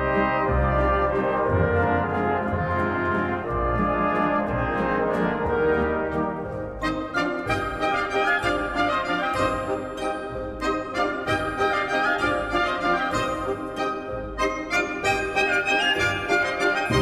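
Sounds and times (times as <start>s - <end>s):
brass-led orchestral music: 0.0s - 17.0s.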